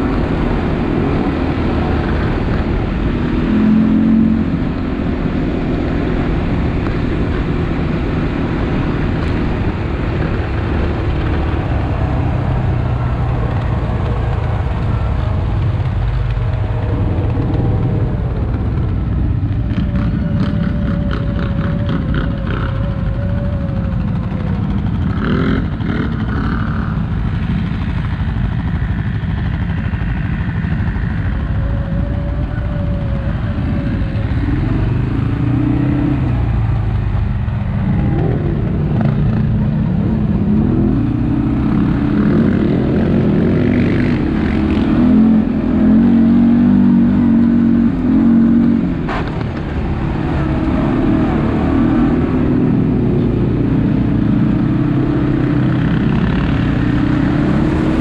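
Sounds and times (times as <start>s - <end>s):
atv engine rumbling: 0.0s - 58.0s
whining tone: 0.0s - 58.0s.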